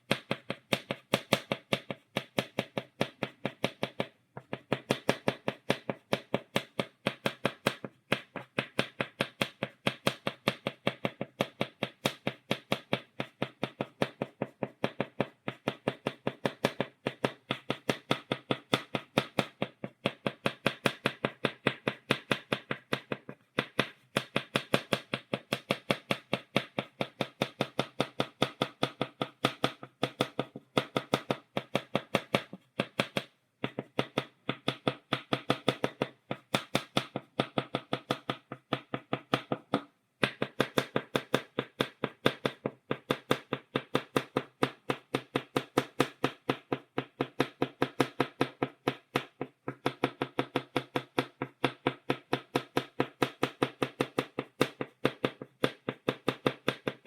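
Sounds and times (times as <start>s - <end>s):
chalk tapping on blackboard: 0.0s - 57.0s.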